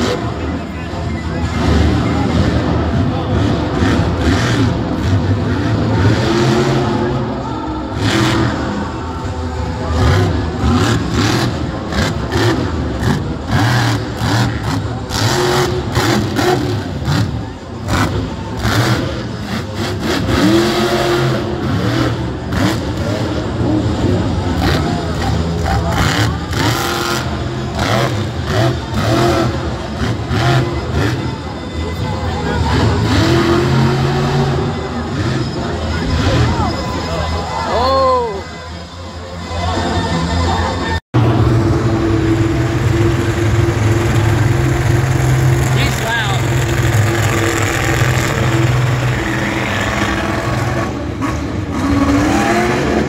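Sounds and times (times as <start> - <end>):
truck engine revving: 0.0 - 37.8, 38.4 - 53.0.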